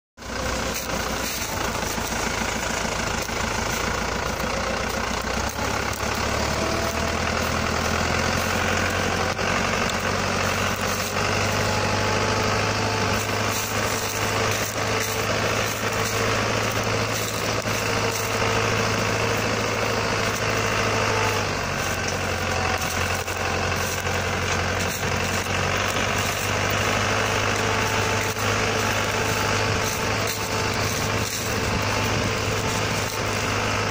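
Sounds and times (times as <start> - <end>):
plough pulling through soil: 0.2 - 33.9
tractor engine running under load: 0.2 - 33.9.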